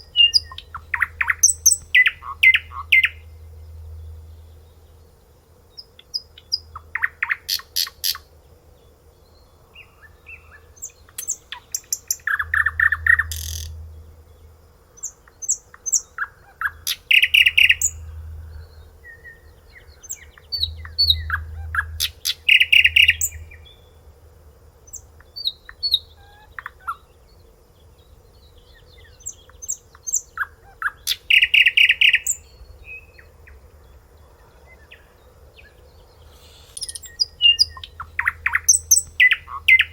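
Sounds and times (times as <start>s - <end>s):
faint hum: 0.0s - 39.9s
songbird singing: 0.0s - 39.9s.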